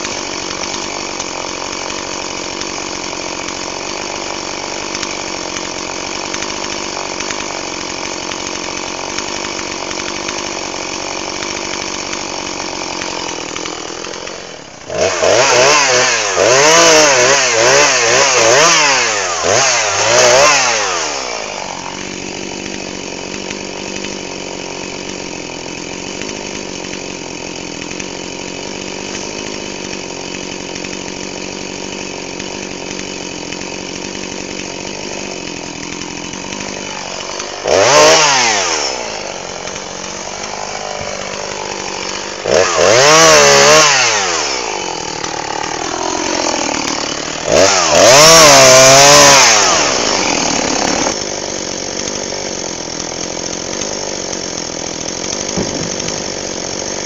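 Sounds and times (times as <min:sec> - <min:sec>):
chainsaw engine idling: 0:00.0 - 0:57.0
chainsaw revving while cutting: 0:00.0 - 0:57.0.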